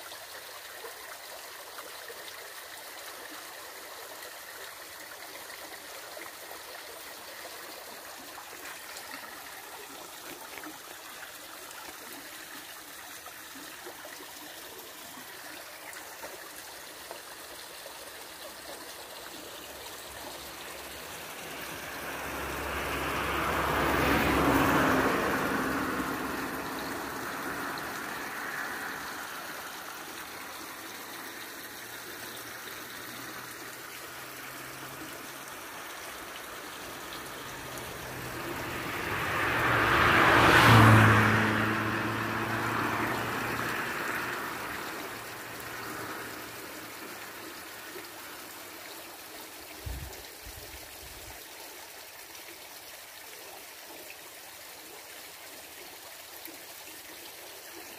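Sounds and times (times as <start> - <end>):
river water flowing over rocks: 0.0 - 57.9.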